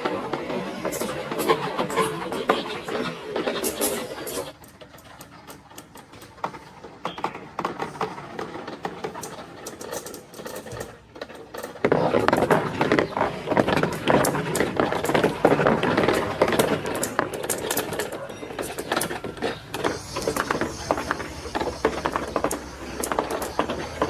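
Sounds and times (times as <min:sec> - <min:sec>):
marbles clattering on plastic track: 0:00.0 - 0:24.0.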